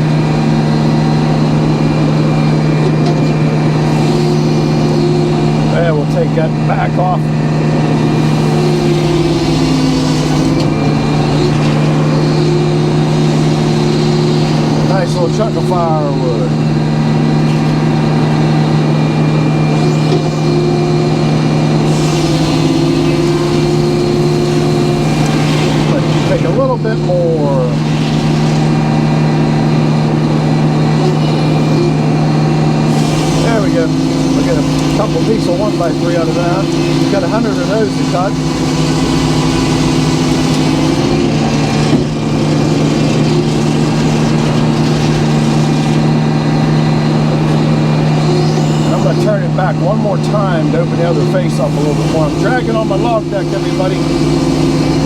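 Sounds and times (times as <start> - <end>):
sawmill engine droning: 0.0 - 55.0.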